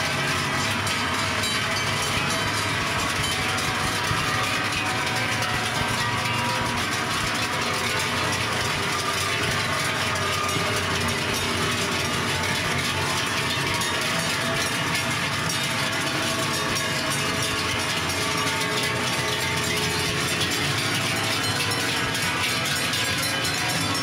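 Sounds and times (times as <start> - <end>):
cowbells clanging: 0.0 - 24.0.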